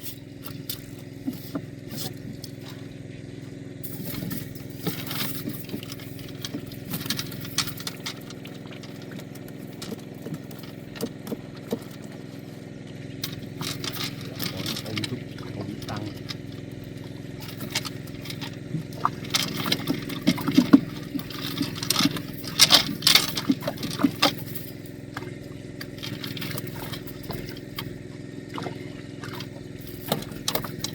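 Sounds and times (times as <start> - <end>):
small engine running: 0.0 - 30.9.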